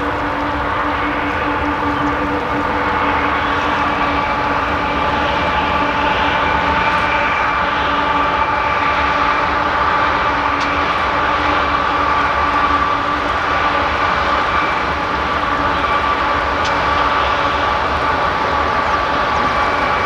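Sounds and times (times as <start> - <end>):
diesel locomotive engine drone: 0.0 - 20.0
whining tones: 0.0 - 20.0.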